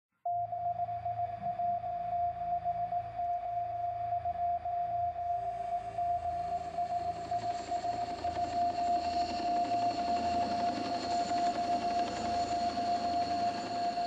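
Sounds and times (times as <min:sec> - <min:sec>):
steady high electronic tone: 0:00.4 - 0:14.0
low drone: 0:01.0 - 0:14.0.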